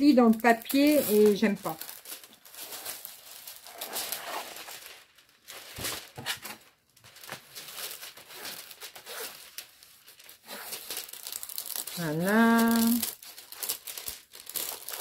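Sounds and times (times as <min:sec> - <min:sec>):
paper sheet crinkling and rustling: 0:00.0 - 0:15.0.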